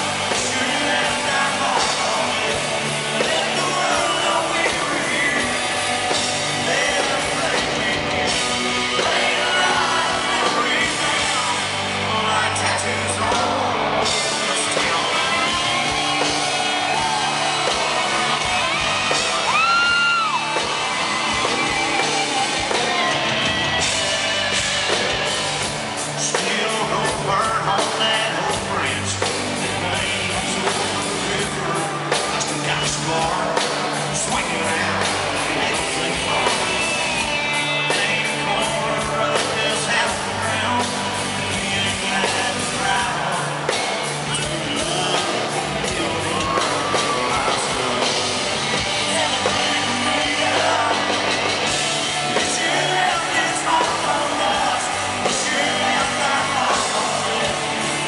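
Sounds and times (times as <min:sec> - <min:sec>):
country-rock band playing: 0:00.0 - 0:58.0
person singing lead vocal: 0:00.0 - 0:58.0.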